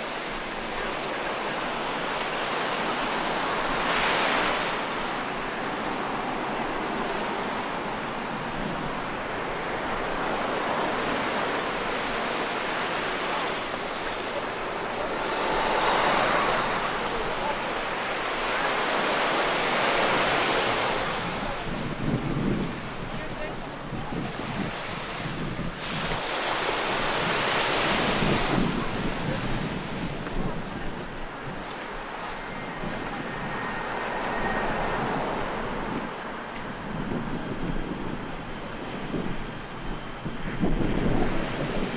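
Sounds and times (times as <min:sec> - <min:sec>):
sea waves breaking on beach: 0:00.0 - 0:41.9.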